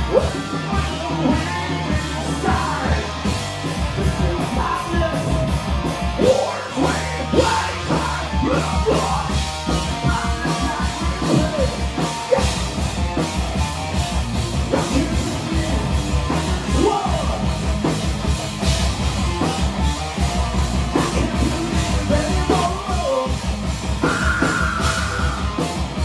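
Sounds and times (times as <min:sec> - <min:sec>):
live metal band: 0:00.0 - 0:26.0.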